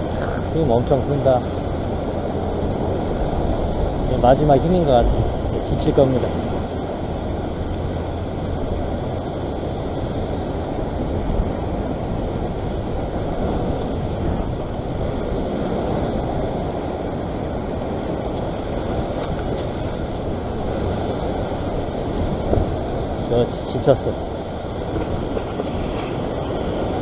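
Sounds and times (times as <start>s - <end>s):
ocean surf washing against rocks: 0.0s - 27.0s
wind on microphone: 0.0s - 27.0s.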